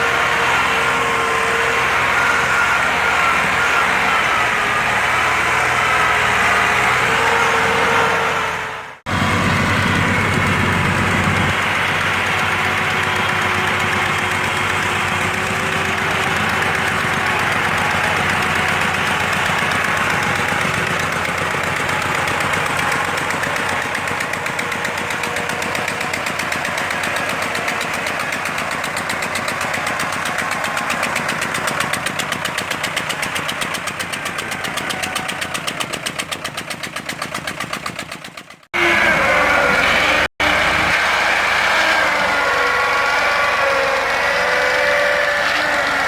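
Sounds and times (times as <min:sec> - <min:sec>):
higher engine sound: 0:00.0 - 0:46.0
tractor diesel engine running: 0:00.0 - 0:46.0.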